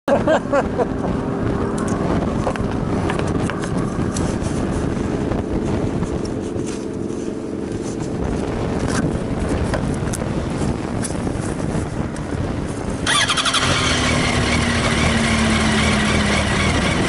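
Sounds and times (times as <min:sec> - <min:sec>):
wind rushing over microphone: 0:00.1 - 0:17.0
motorcycle engine running: 0:00.3 - 0:17.0.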